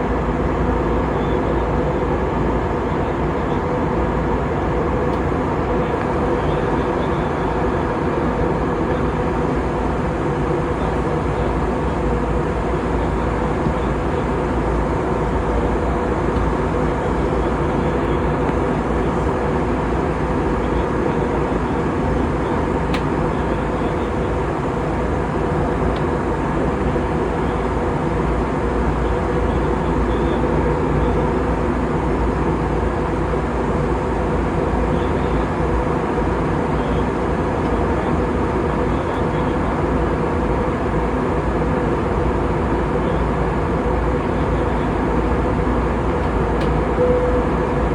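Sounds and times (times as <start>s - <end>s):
jet airliner cabin drone: 0.0s - 47.9s.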